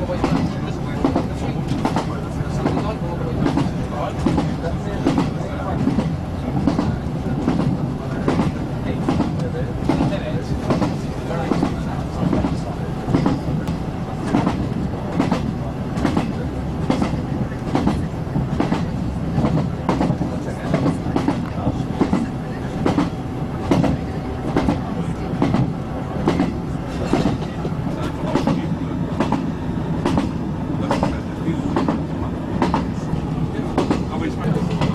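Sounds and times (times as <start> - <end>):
train rumble inside carriage: 0.0 - 34.9.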